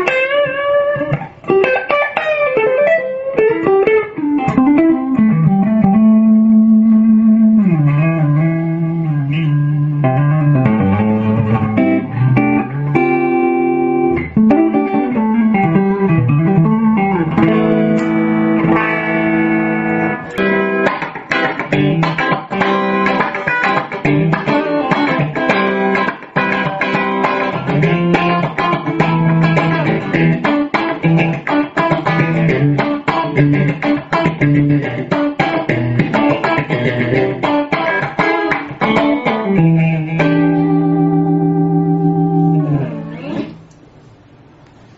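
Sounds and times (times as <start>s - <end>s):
electric guitar playing: 0.0s - 44.2s.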